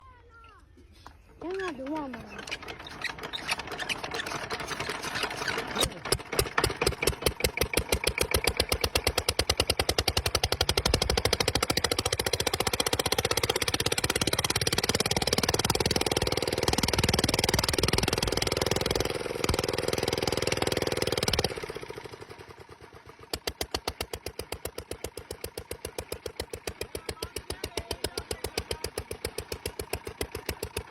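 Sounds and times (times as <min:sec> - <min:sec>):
engine running: 0:01.0 - 0:30.9.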